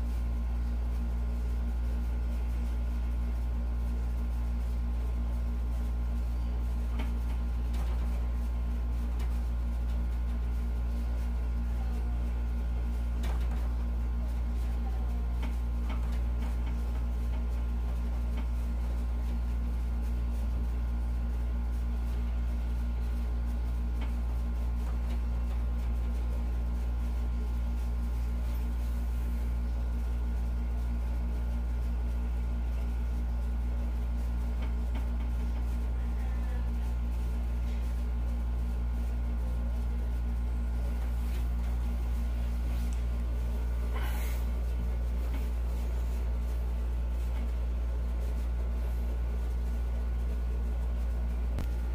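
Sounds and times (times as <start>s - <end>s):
low room hum: 0.0s - 51.9s.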